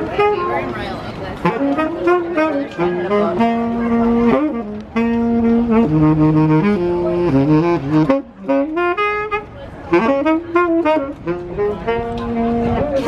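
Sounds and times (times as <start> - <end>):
solo saxophone melody: 0.0 - 13.0.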